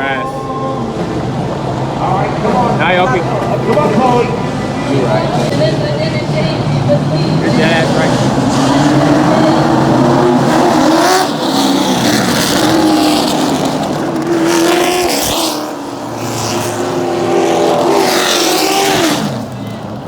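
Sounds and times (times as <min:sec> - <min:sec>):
race car engines passing by: 0:00.0 - 0:20.0.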